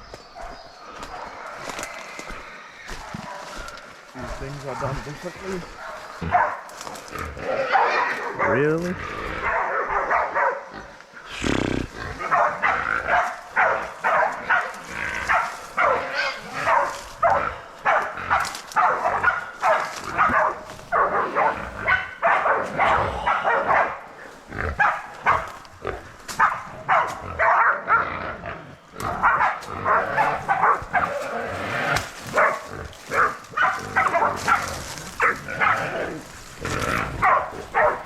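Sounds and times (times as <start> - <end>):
dogs barking: 0.3 - 11.1, 11.9 - 38.0.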